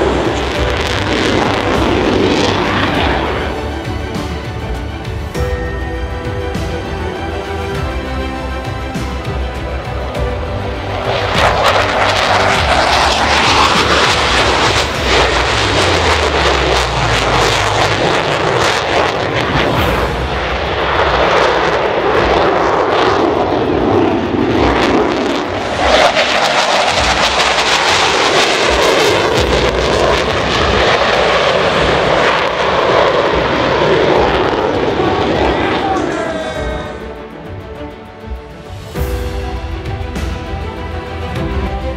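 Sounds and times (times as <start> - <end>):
fighter jet flying past: 0.0 - 5.2, 9.9 - 41.5.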